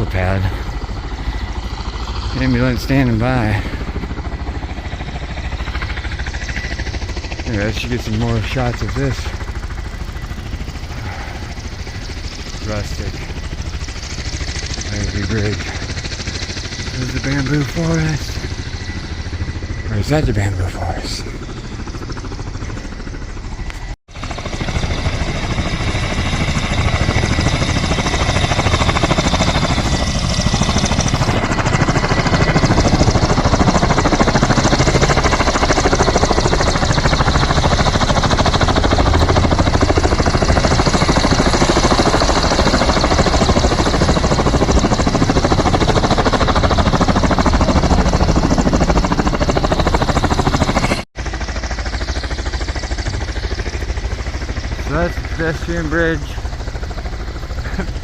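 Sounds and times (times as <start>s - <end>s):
helicopter rotor chop: 0.0s - 58.0s.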